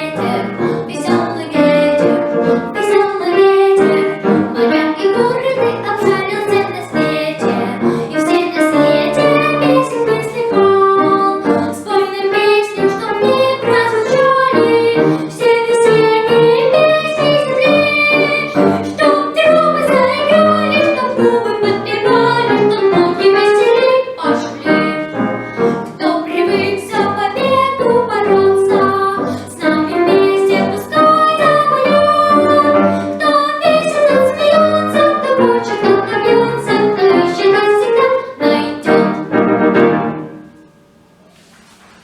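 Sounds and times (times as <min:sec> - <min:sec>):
piano song accompaniment: 0:00.0 - 0:41.4.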